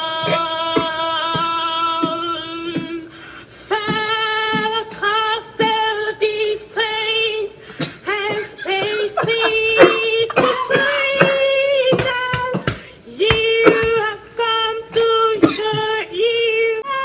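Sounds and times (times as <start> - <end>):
high solo singing voice: 0.0 - 17.0.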